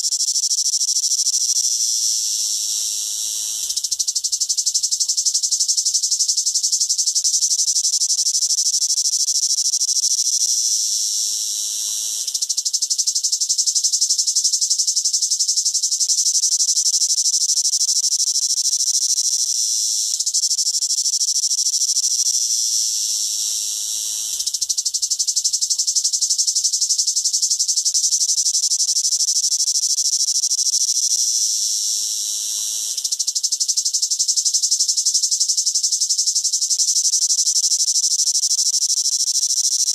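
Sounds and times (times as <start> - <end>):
cicada buzzing: 0.0 - 39.9.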